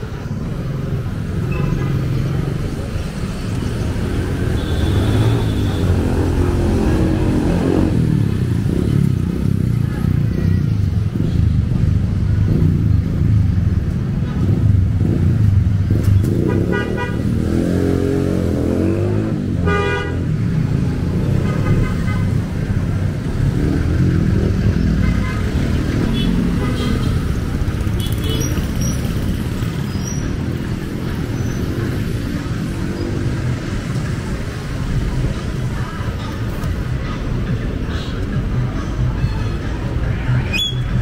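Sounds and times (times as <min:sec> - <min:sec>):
vehicle engines running: 0:00.0 - 0:19.6, 0:20.2 - 0:41.0.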